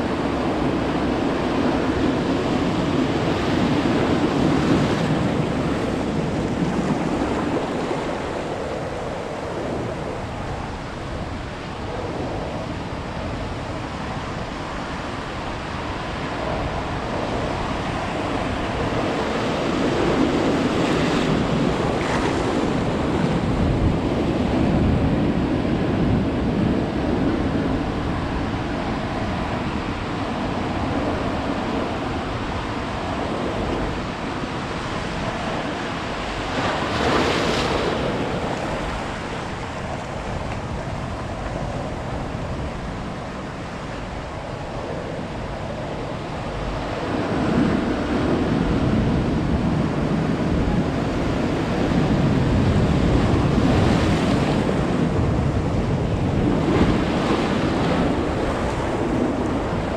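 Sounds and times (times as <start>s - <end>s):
waves breaking on beach: 0.0s - 59.9s
wind buffeting microphone: 0.0s - 59.9s.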